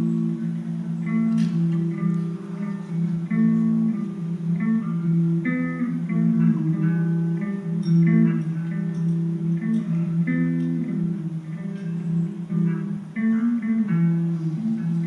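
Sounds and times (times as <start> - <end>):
solo guitar picking: 0.0 - 15.0.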